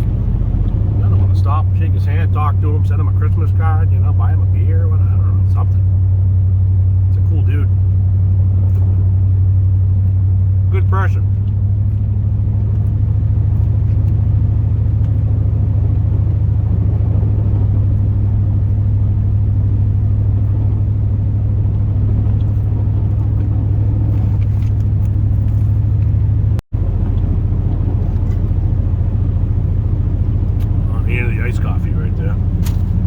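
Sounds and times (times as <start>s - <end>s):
road noise: 0.0s - 33.0s
truck engine drone: 0.0s - 33.0s.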